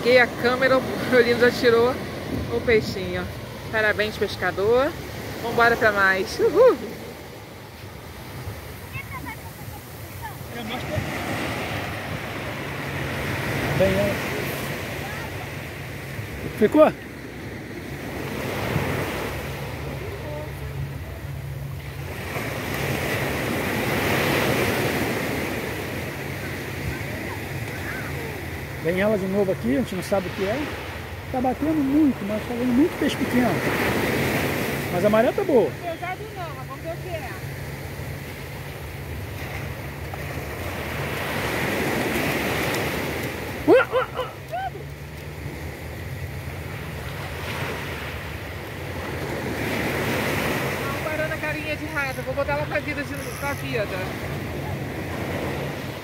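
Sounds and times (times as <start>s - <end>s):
small waves breaking on beach: 0.0s - 56.0s.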